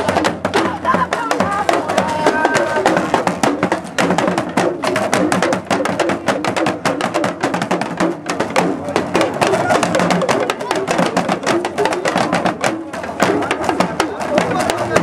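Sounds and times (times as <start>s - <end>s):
drum ensemble dance rhythm: 0.0s - 15.0s.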